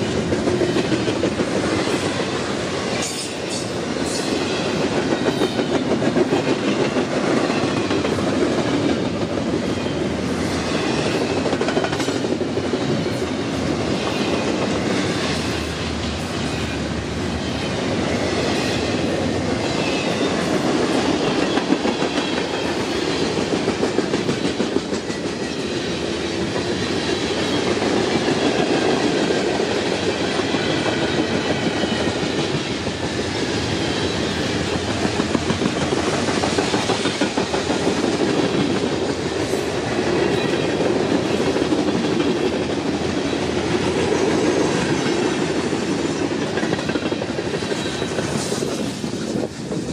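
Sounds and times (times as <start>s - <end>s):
freight train wheels clattering: 0.0s - 16.7s, 17.6s - 49.9s.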